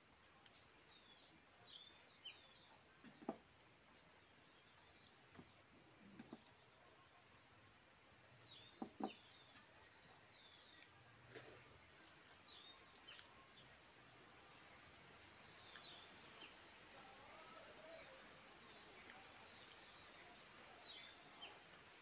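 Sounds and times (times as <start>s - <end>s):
small birds chirping: 0.3s - 22.0s.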